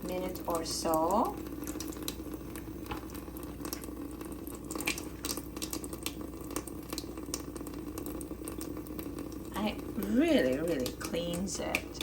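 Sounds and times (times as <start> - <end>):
tap running into drain: 0.0 - 12.0.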